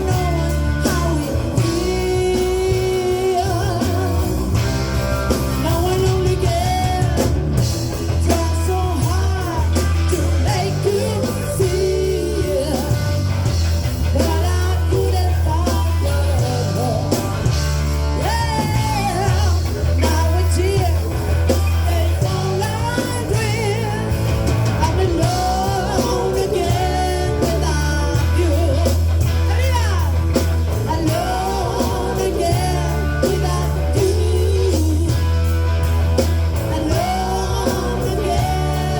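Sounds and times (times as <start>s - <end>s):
drums: 0.0s - 38.9s
electric guitar: 0.0s - 38.9s
heavy steady bass line: 0.0s - 38.9s
lead singer: 0.0s - 38.9s.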